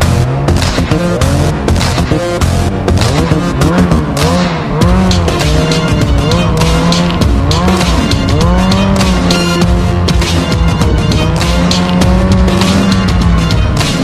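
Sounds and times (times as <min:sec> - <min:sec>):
music with steady beat: 0:00.0 - 0:14.0
snowmobile engine revving: 0:00.0 - 0:14.0.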